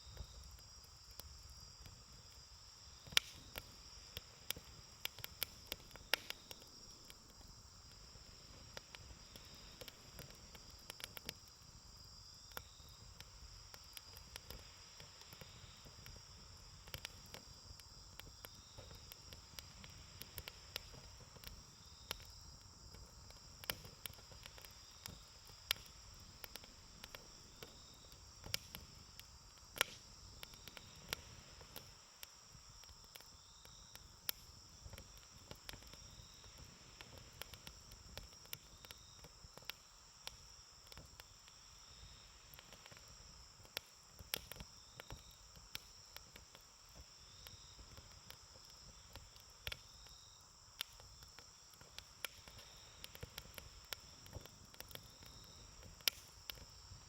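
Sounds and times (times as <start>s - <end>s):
campfire crackling and popping: 0.0s - 57.0s
insects trilling: 0.0s - 57.0s.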